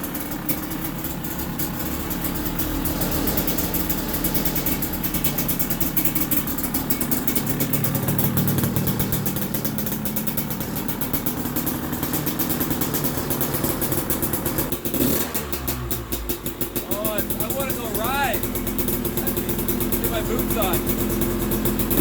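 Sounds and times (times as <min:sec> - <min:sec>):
dirt bike two-stroke engine: 0:00.0 - 0:22.0.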